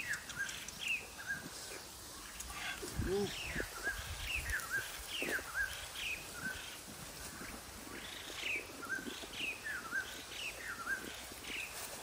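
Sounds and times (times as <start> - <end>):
bird chirping: 0.0 - 11.9
leaves rustling: 0.0 - 12.0.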